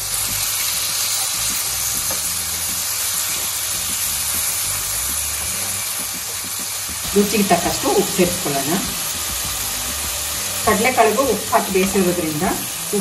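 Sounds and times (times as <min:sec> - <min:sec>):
masala sizzling in a pan: 0:00.0 - 0:13.0.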